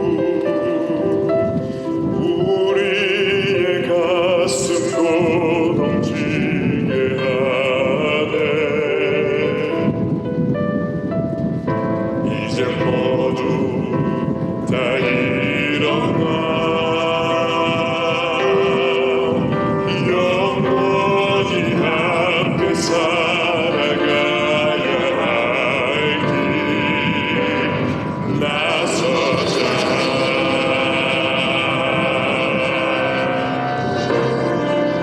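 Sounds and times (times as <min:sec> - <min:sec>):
backing track music: 0:00.0 - 0:35.0
person singing pop ballad: 0:00.0 - 0:35.0.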